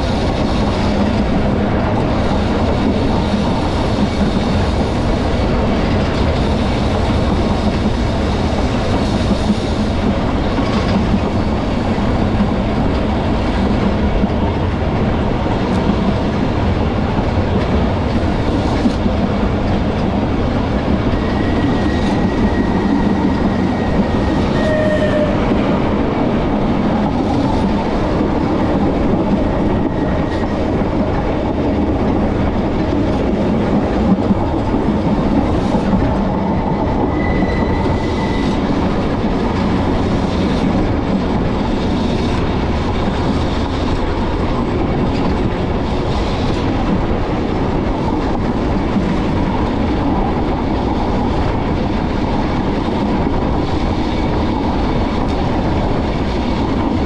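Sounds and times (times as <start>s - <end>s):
tram wheels rumbling on rails: 0.0s - 57.0s.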